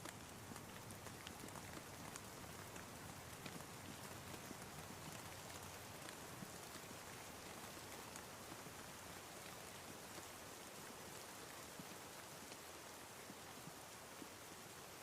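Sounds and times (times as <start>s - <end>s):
faint rain hiss: 0.0s - 15.0s
soft raindrop ticks: 0.0s - 15.0s.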